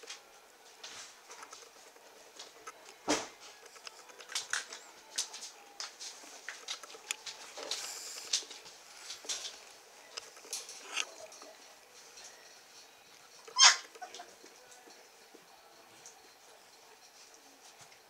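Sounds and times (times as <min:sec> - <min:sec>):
puppies scratching and rustling: 0:00.0 - 0:18.0.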